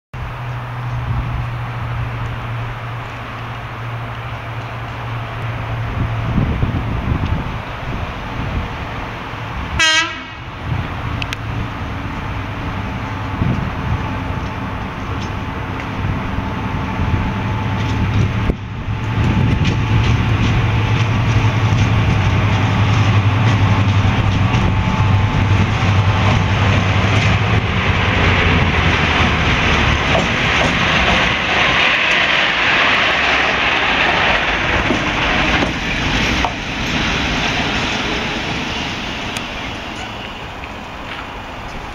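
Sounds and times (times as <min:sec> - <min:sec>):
diesel locomotive engine drone: 0:00.1 - 0:41.9
locomotive hiss passing: 0:00.2 - 0:41.9.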